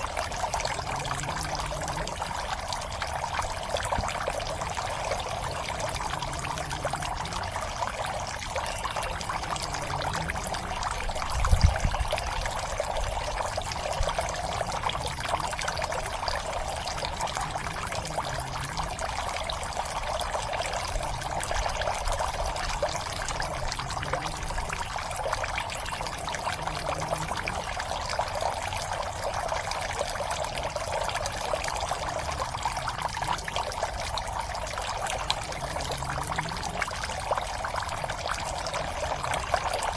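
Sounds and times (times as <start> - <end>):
water pouring into pond: 0.0 - 39.9.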